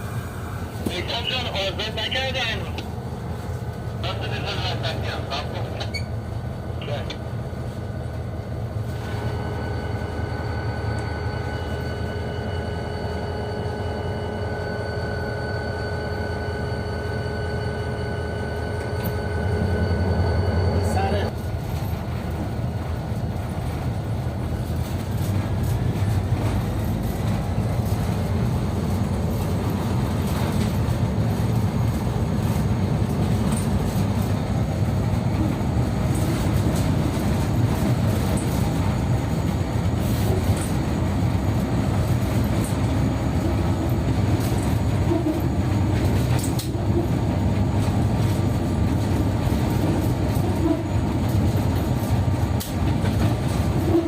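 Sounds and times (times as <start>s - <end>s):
diesel locomotive droning: 0.0s - 54.0s.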